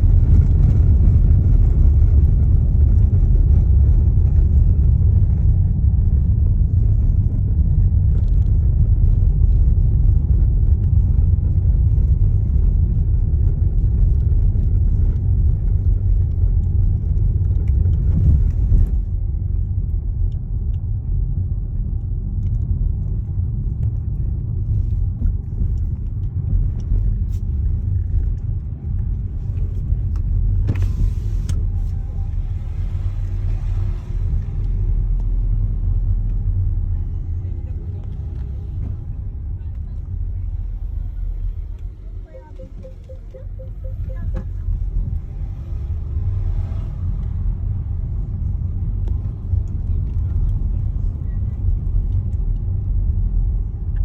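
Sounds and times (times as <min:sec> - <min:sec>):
tyres rumbling on road: 0:00.0 - 0:42.5, 0:43.8 - 0:54.0.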